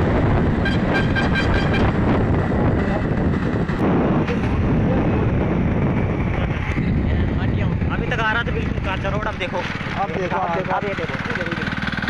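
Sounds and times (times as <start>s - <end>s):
wind buffeting microphone: 0.0s - 10.2s
road vehicle rumble: 0.0s - 12.0s.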